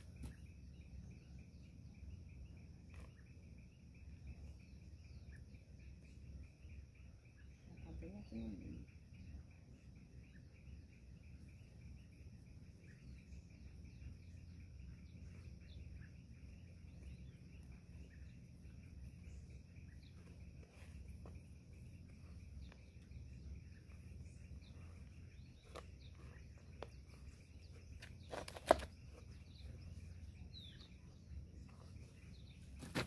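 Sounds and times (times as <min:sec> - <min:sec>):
low background rumble: 0:00.0 - 0:28.3, 0:28.9 - 0:32.9
pulsing insect trill: 0:00.0 - 0:33.0.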